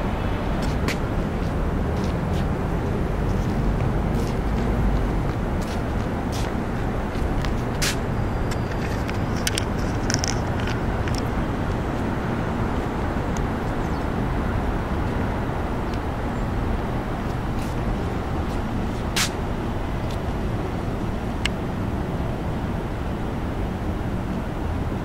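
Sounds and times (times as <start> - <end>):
distant city traffic rumble: 0.0 - 25.0.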